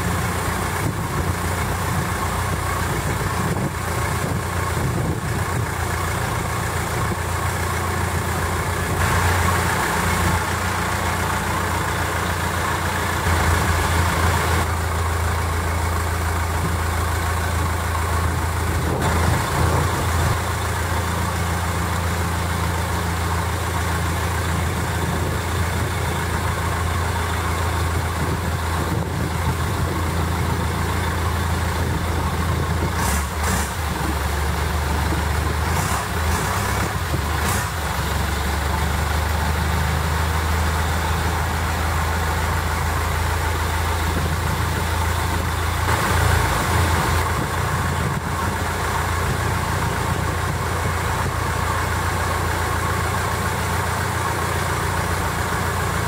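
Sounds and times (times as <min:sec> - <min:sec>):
boat engine droning: 0:00.0 - 0:56.0
wind: 0:00.0 - 0:56.0.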